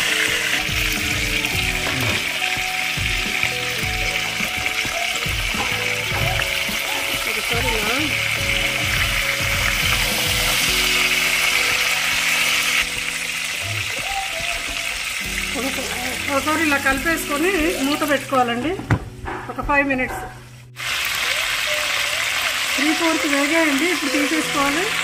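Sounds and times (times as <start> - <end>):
eggplants sizzling in hot oil: 0.0 - 18.6, 19.8 - 25.0
background music: 0.0 - 25.0.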